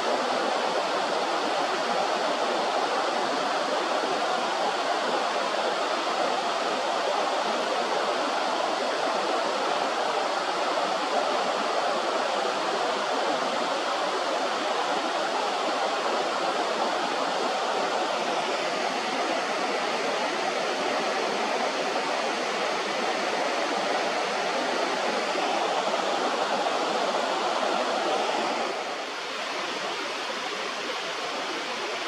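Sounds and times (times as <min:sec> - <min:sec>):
flowing river water: 0:00.0 - 0:32.0.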